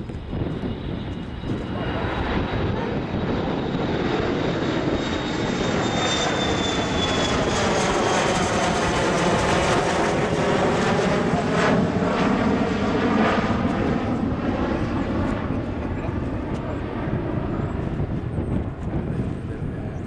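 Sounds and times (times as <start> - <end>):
jet engines rushing: 0.0 - 20.0.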